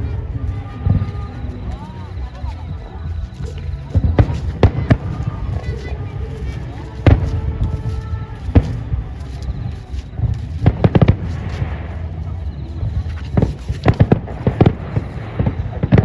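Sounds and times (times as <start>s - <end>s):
fireworks popping: 0.0s - 16.0s.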